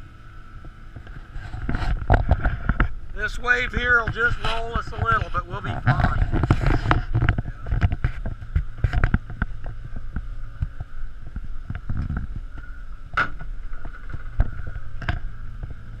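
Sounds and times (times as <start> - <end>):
faint steady hum: 0.0 - 16.0
low rumble of sailboat: 0.0 - 16.0.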